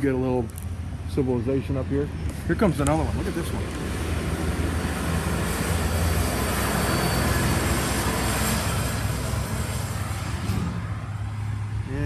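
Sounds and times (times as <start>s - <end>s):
heavy truck driving past: 0.8s - 12.0s.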